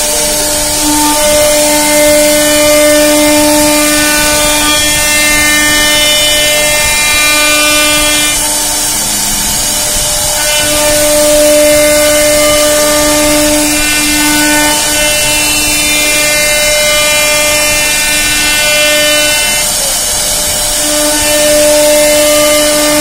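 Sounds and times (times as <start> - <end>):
hiss of bit cutting wood: 0.0 - 23.0
router spindle whine: 0.0 - 23.0.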